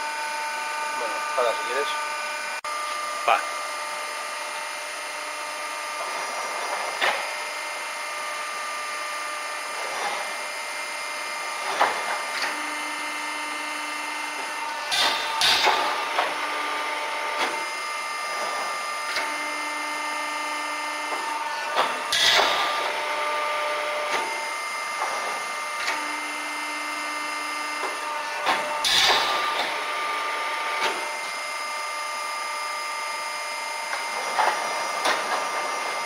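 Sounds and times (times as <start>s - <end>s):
steady machine hum: 0.0s - 36.0s.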